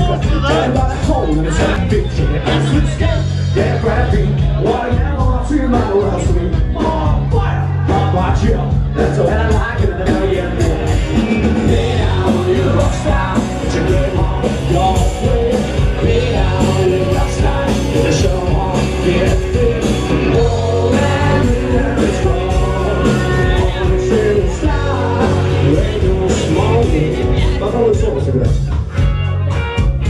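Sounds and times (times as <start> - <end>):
person singing: 0.0 - 29.0
heavy steady bass: 0.0 - 30.0
loud rock music: 0.0 - 30.0.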